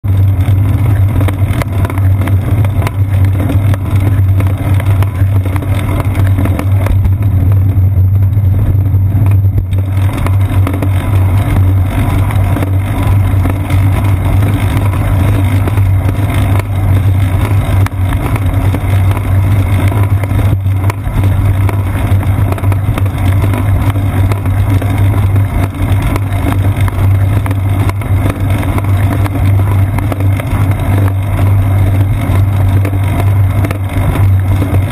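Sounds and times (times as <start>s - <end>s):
bicycle road vibration: 0.0s - 34.9s.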